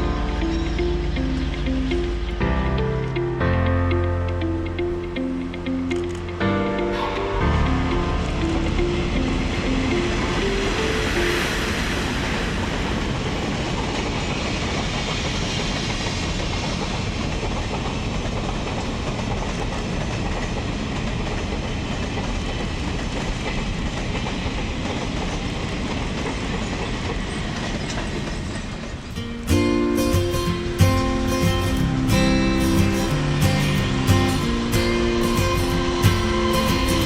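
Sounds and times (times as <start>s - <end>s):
freight train rolling on rails: 0.0s - 37.0s.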